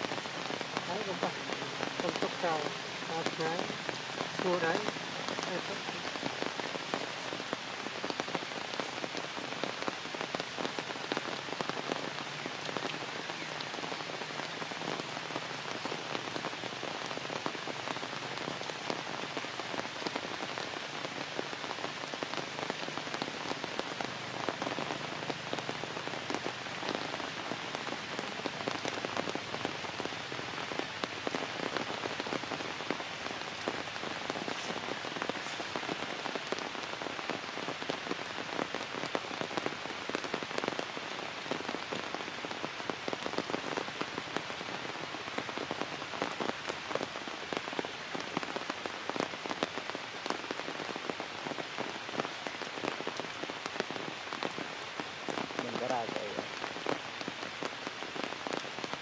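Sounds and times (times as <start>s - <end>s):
heavy rain on leaves: 0.0s - 59.0s.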